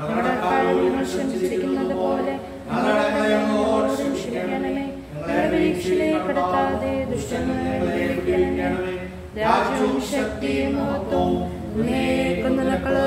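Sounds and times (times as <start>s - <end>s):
man singing a hymn unaccompanied: 0.0s - 13.0s.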